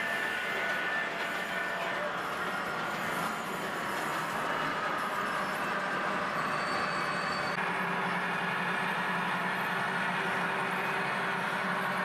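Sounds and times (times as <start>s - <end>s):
model train whirring on track: 0.0s - 12.0s.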